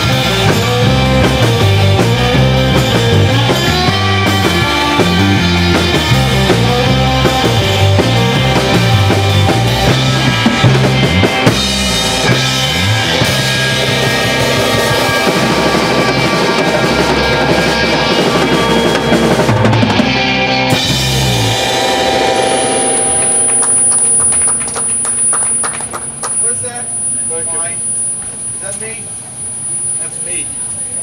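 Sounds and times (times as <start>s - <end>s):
drum kit: 0.0s - 26.2s
electric guitar: 0.0s - 27.1s
electric bass line: 0.0s - 28.6s.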